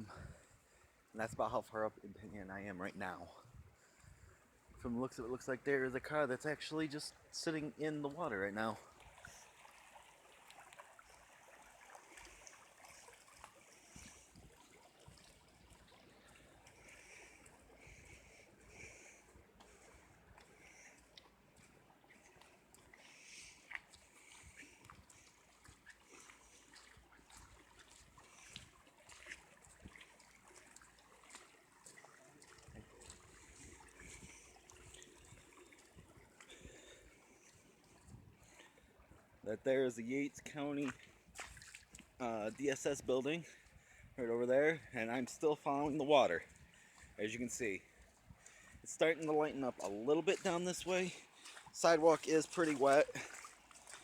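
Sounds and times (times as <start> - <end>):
running floodwater: 0.0 - 54.0.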